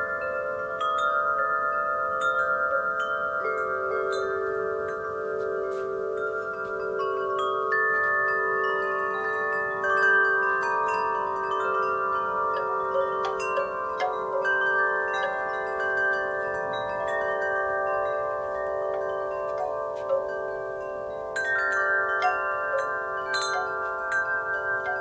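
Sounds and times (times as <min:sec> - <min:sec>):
metal wind chimes ringing: 0:00.0 - 0:25.0.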